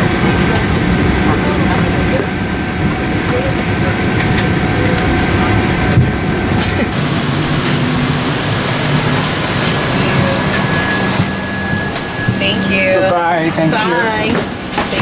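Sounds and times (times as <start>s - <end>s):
low hum: 0.0s - 14.9s
airplane cabin rumble: 0.0s - 15.0s.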